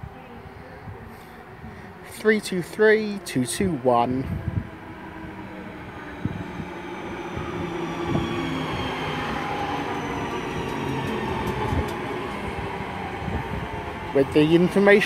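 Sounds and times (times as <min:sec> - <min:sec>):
faint high train whine: 0:00.0 - 0:15.0
train wheels rumbling on rails: 0:01.9 - 0:15.0.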